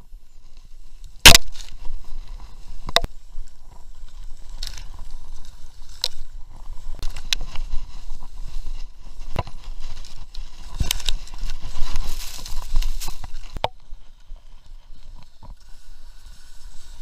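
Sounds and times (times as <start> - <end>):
skis rumbling on snow: 0.0 - 17.0.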